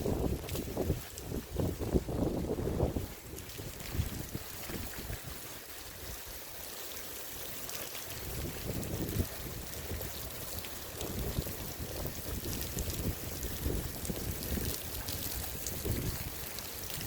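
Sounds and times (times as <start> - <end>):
wind gusts buffeting microphone: 0.0 - 5.4, 8.2 - 17.0
rain hissing: 0.0 - 17.0.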